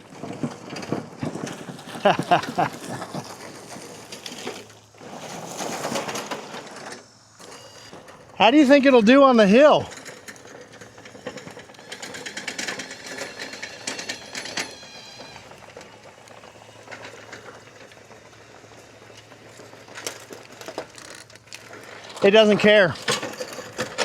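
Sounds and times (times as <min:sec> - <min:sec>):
faint track clatter: 0:00.0 - 0:24.0.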